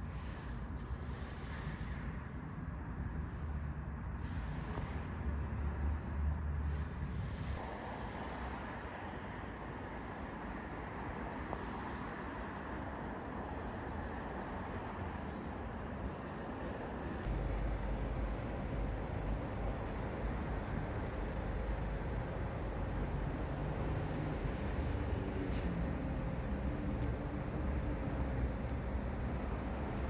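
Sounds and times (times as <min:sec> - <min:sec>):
road traffic hum: 0:00.0 - 0:30.0.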